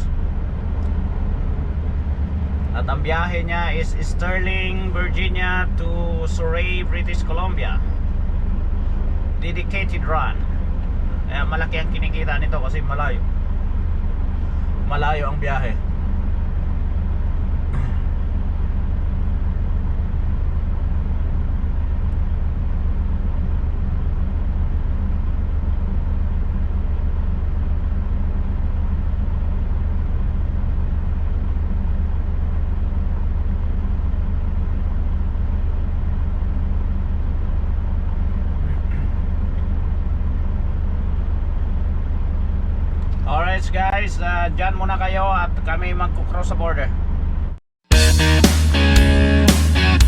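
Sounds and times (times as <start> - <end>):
diesel truck engine droning: 0.0 - 50.0.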